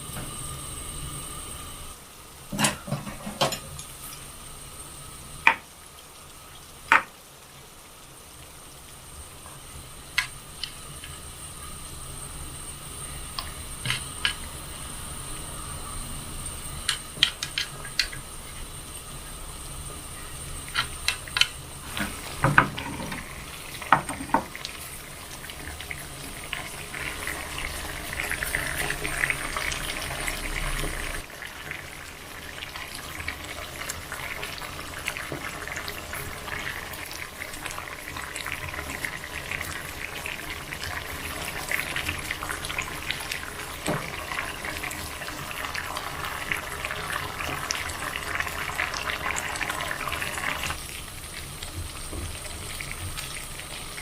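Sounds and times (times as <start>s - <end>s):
food sizzling: 0.0s - 54.0s.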